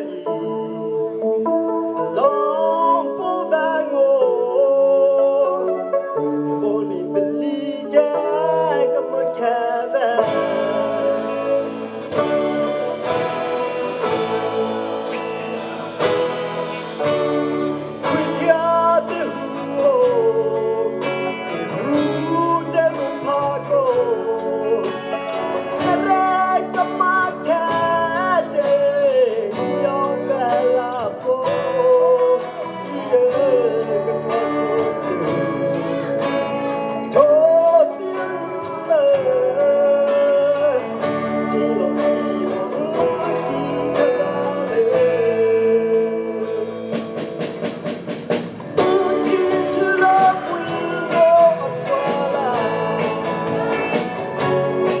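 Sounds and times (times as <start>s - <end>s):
man singing: 0.0s - 47.7s, 48.6s - 55.0s
bass guitar: 0.0s - 55.0s
electric guitar: 0.0s - 55.0s
drum beats: 10.1s - 55.0s.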